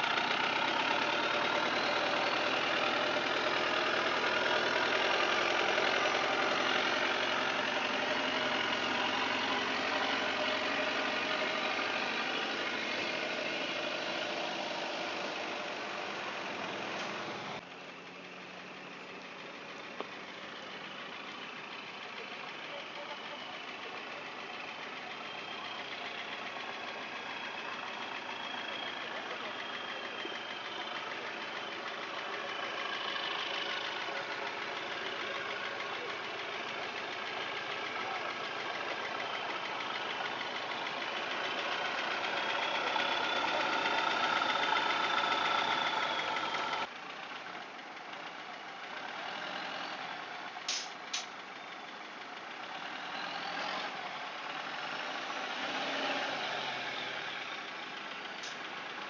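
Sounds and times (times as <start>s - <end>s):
off-road engine working hard: 0.0s - 59.0s.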